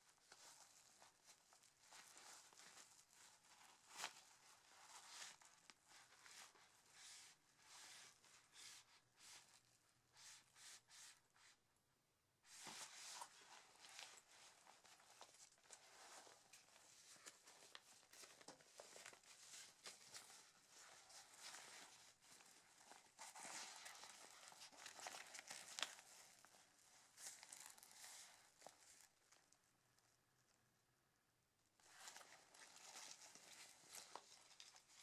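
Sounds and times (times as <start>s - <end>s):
fabric rustling and crinkling: 0.0s - 10.8s, 12.5s - 30.4s, 31.8s - 35.0s.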